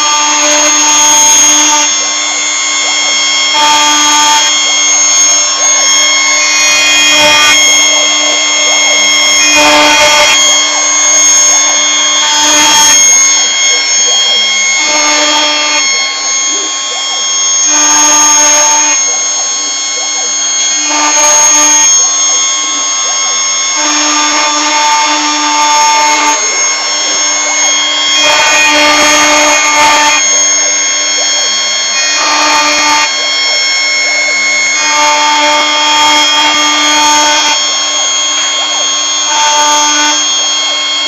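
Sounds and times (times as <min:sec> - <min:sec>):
cutter engraving metal: 0:00.0 - 0:41.0
router spindle whining: 0:00.0 - 0:41.0.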